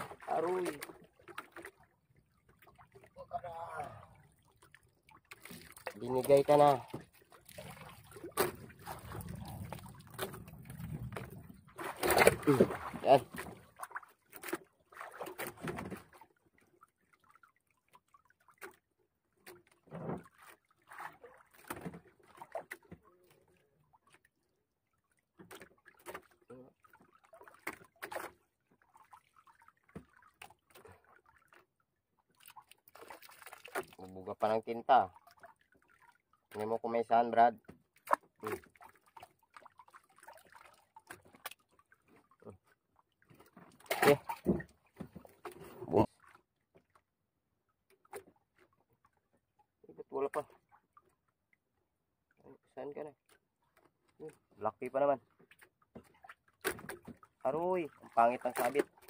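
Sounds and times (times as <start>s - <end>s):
water lapping against boat hull: 0.0s - 59.0s.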